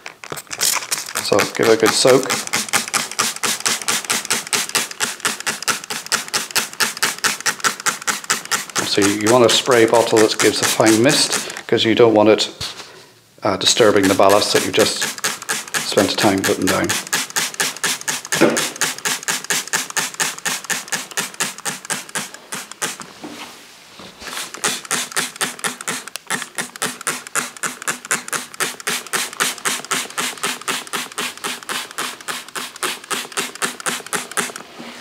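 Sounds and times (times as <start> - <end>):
spray bottle squirting mist: 0.4 - 11.7, 13.6 - 23.1, 24.2 - 34.7.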